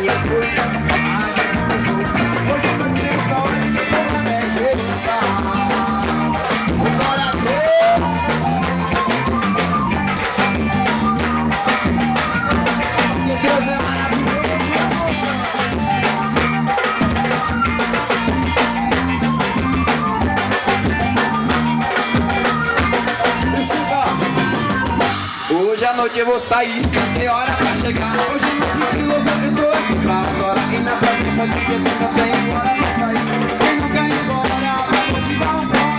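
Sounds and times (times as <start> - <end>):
bass line: 0.0 - 25.9, 26.5 - 35.9
drum kit beat: 0.0 - 35.9
live band playing instrumental: 0.0 - 35.9.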